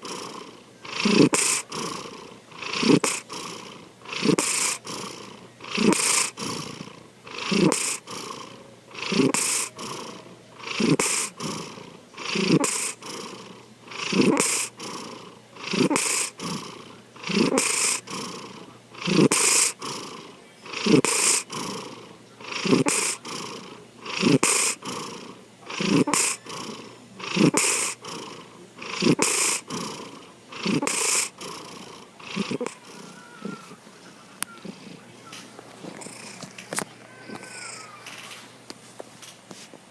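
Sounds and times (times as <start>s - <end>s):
cat snoring: 0.0s - 33.8s, 34.4s - 35.1s, 35.9s - 36.5s, 37.3s - 38.0s.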